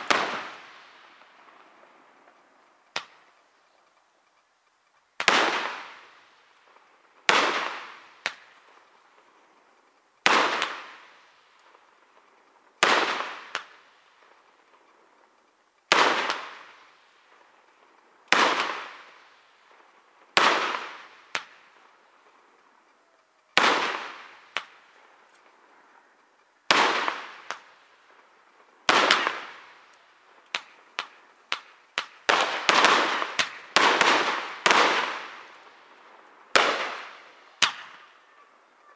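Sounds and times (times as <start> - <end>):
firework shells bursting: 0.0 - 25.6, 26.2 - 38.2
small firework cracks: 0.0 - 38.9.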